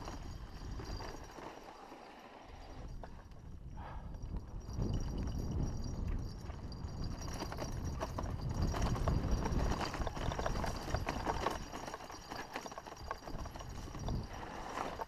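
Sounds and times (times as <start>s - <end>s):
mountain bike rolling on dirt: 0.0s - 15.0s.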